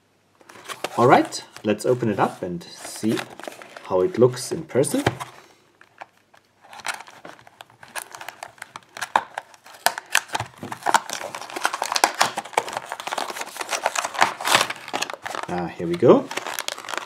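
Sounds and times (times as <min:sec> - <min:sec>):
packaging crinkling and rustling: 0:00.4 - 0:17.0.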